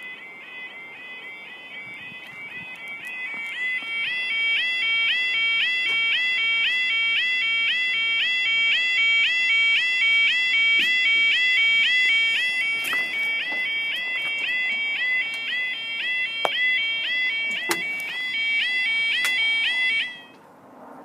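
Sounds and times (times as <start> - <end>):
level crossing warning alarm: 0.0 - 20.4.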